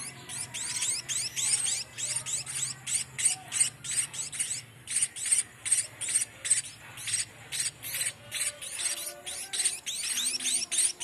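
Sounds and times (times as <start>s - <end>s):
fledglings begging calls: 0.0s - 11.0s.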